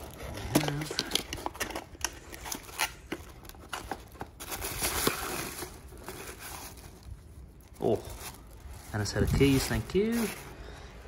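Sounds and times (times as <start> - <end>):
wrapping paper rustling: 0.0 - 10.8.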